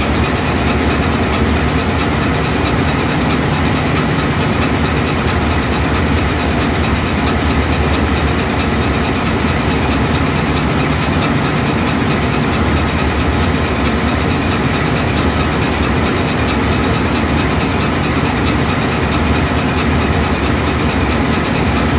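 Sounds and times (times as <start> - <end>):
large diesel engine running: 0.0 - 21.9.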